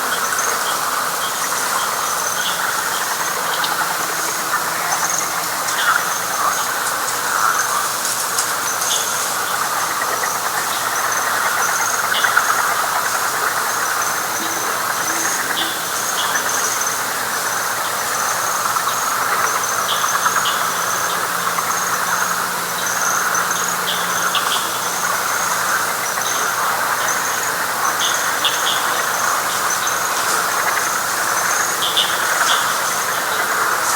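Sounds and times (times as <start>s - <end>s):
frog chorus: 0.0s - 33.9s.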